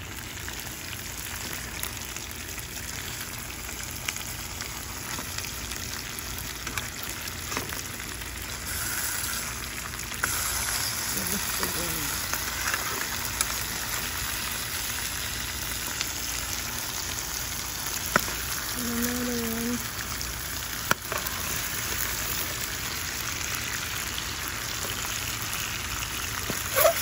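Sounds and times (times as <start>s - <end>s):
fish sizzling in oil: 0.0s - 27.0s.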